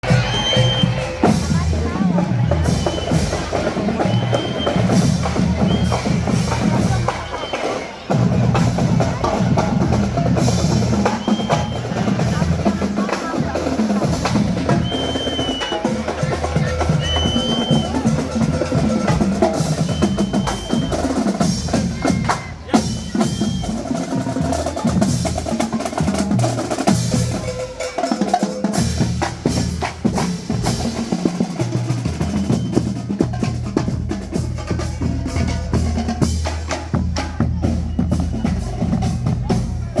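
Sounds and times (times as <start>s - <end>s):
marching band playing: 0.0s - 40.0s
snare drum rolls: 0.0s - 40.0s.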